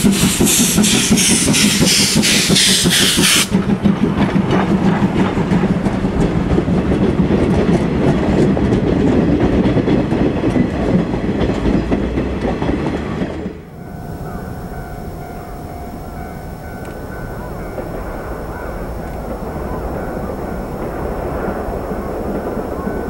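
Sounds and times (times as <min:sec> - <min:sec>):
steam train rumbling past: 0:00.0 - 0:23.0
wheels clattering over rail joints: 0:00.0 - 0:23.0.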